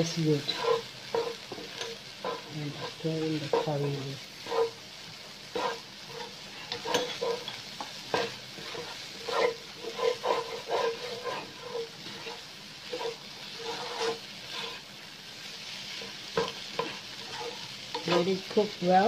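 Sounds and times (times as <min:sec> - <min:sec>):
food sizzling: 0:00.0 - 0:19.0
spatula scraping a wok: 0:00.0 - 0:19.0.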